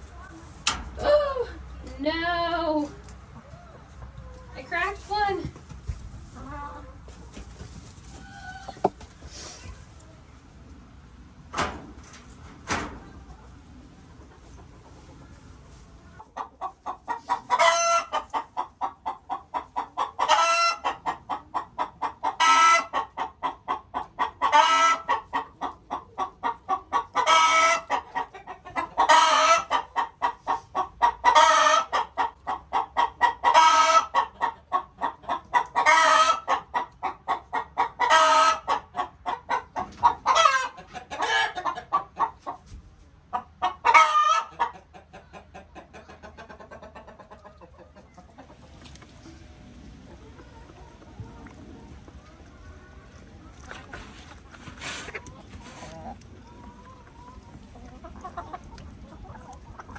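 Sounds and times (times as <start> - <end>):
hen clucking: 3.1 - 9.6, 13.2 - 59.9.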